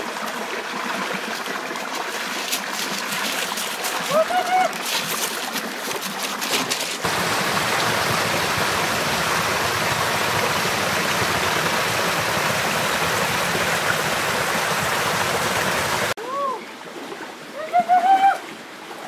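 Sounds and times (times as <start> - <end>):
waterfall splashing into pool: 0.0 - 16.2.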